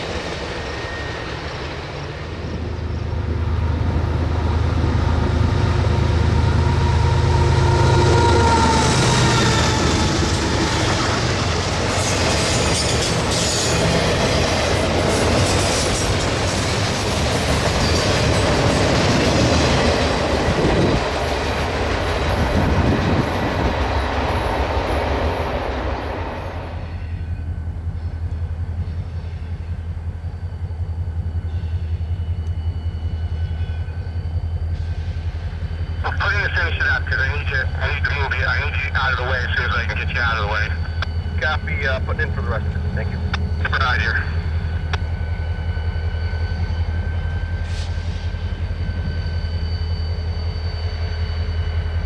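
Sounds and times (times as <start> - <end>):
train wheel-and-rail noise: 0.0 - 52.0.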